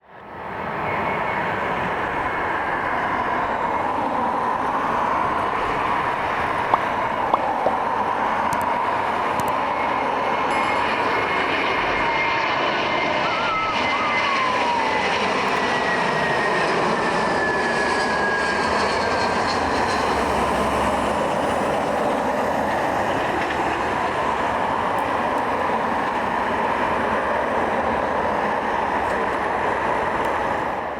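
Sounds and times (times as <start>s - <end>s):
jet airliner passing: 0.0s - 30.9s.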